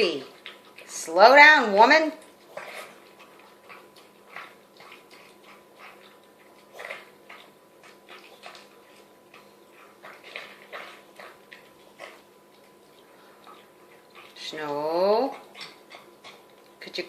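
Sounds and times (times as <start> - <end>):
dog slurping from a bowl: 0.0 - 17.0.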